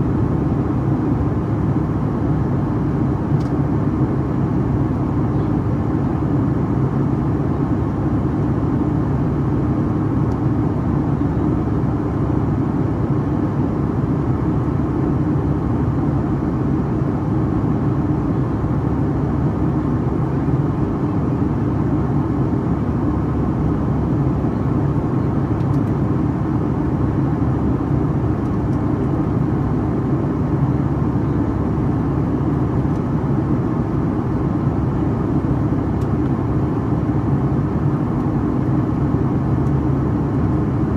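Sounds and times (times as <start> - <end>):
jet engine drone: 0.0 - 40.9.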